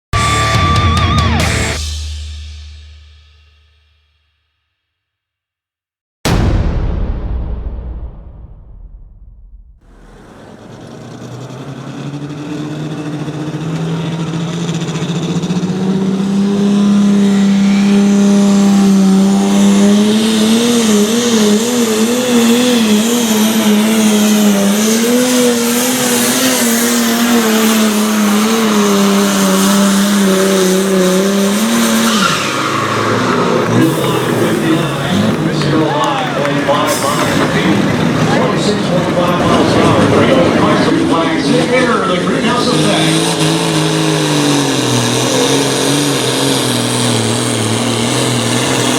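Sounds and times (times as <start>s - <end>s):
tractor diesel engine at full power: 9.6s - 48.9s.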